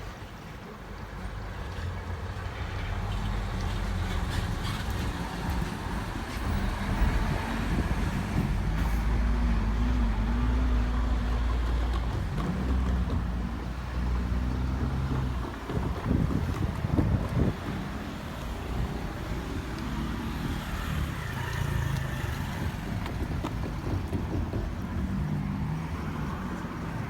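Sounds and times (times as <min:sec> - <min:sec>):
faint clicks from rail joints: 0:00.0 - 0:27.0
electric train rumble: 0:02.6 - 0:27.0.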